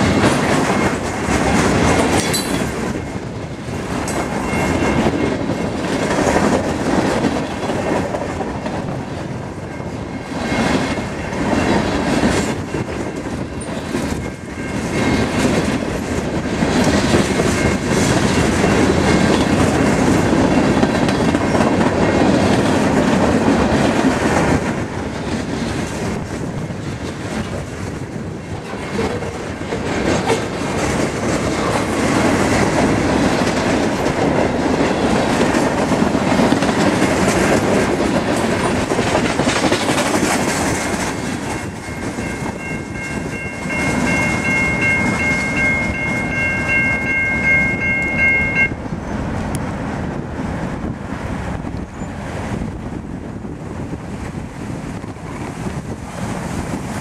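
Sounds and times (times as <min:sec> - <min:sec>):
train wheels clattering over rail joints: 0:00.0 - 0:46.8.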